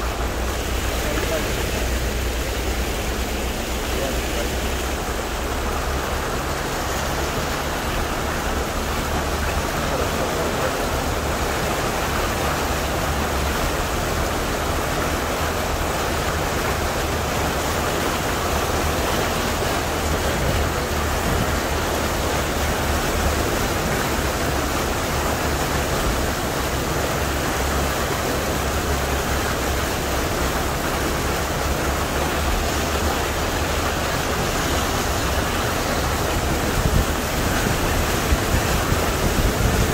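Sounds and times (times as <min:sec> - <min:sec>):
floodwater rushing and churning: 0:00.0 - 0:39.9.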